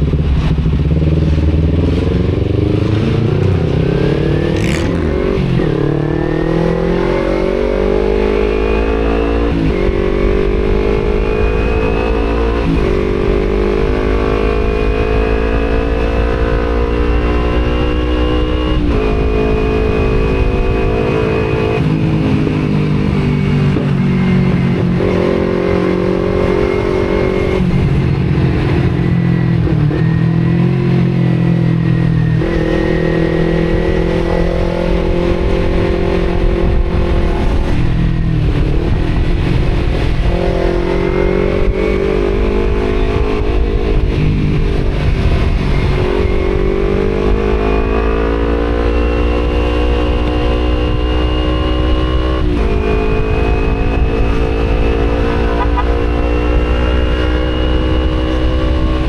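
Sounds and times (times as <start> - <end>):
motorcycle engine accelerating: 0.0 - 59.0
wind rumble on microphone: 0.0 - 59.0.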